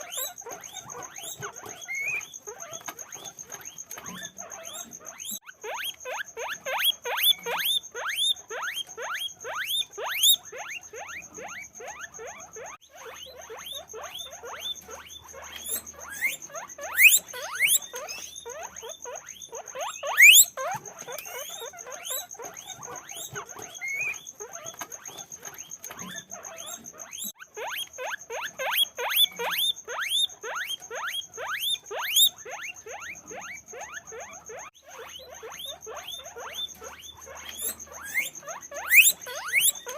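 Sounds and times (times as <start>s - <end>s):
guinea pigs squeaking: 0.0s - 39.9s.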